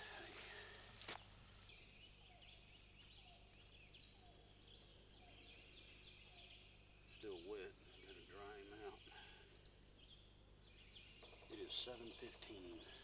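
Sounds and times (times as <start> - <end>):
higher bird chirps: 1.6 - 13.0.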